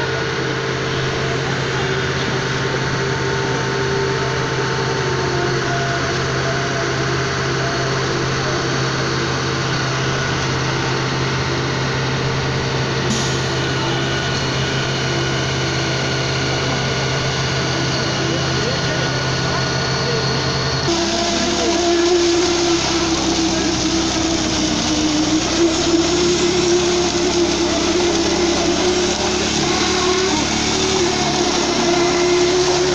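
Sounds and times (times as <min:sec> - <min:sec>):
diesel engine droning: 0:00.0 - 0:32.9.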